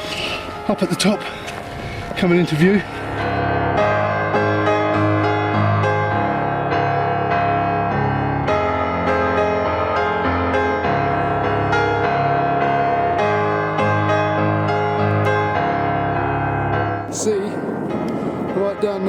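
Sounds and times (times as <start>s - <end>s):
gentle piano piece: 0.0s - 19.0s.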